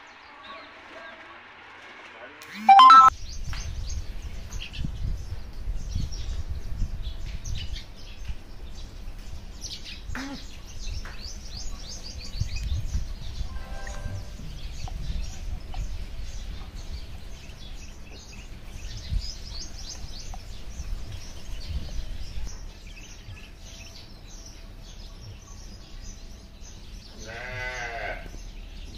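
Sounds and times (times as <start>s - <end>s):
small birds chirping: 2.7s - 28.9s.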